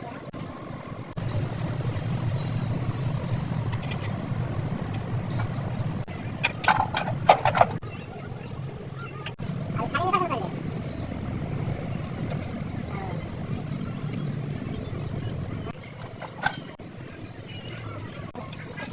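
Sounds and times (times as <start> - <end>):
truck engine starting and running: 0.0 - 18.9.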